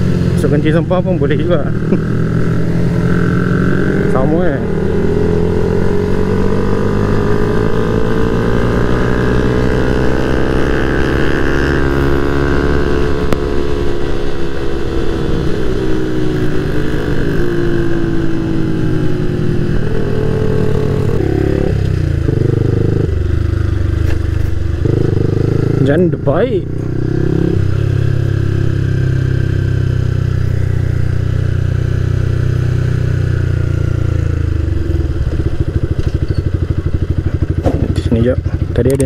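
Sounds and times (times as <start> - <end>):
motorcycle engine while riding: 0.0 - 39.0.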